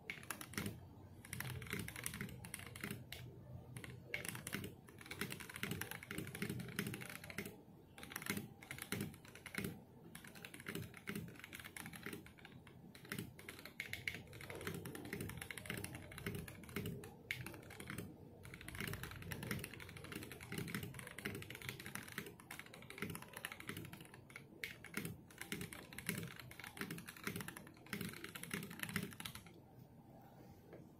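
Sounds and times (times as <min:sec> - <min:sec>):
mechanical keyboard typing: 0:00.0 - 0:29.6.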